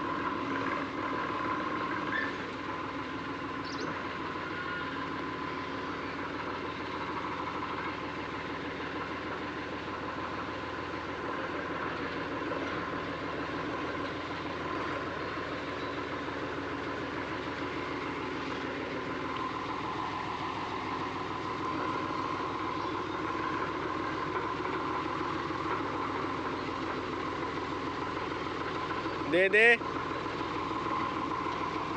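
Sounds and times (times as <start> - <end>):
tractor diesel engine idling: 0.0 - 31.9.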